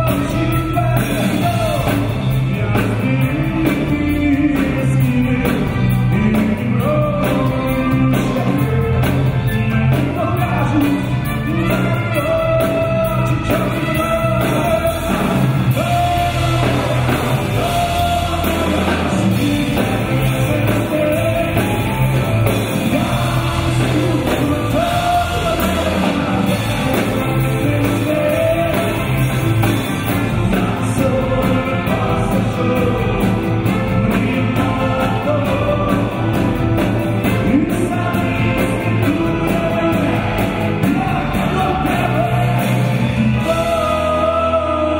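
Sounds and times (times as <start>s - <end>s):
bass guitar: 0.0s - 44.9s
electric guitars: 0.0s - 44.9s
man singing: 0.0s - 44.9s.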